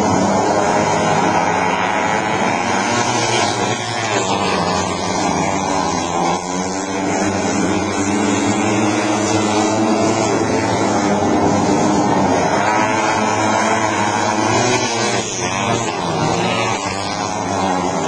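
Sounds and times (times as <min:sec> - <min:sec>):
motorcycles racing: 0:00.0 - 0:18.0.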